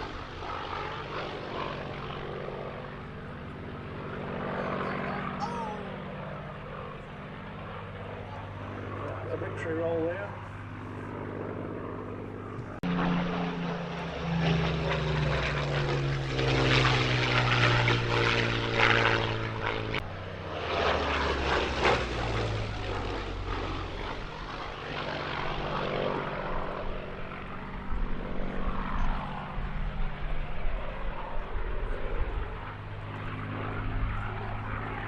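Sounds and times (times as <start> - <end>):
aircraft engine and propeller drone: 0.0 - 35.0.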